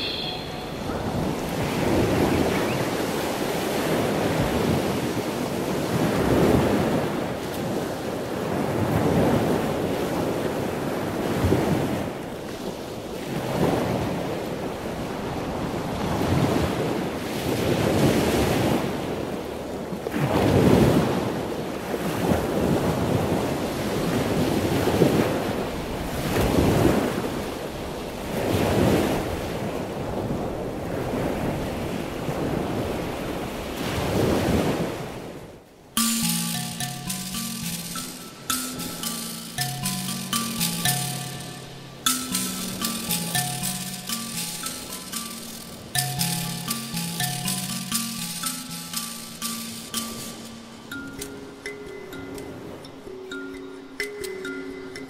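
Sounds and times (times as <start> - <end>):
ocean waves rushing: 0.0 - 55.0.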